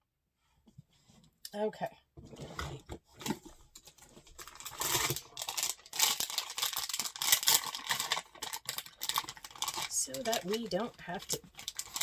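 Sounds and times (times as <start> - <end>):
packaging rustling and crinkling: 2.3 - 12.0.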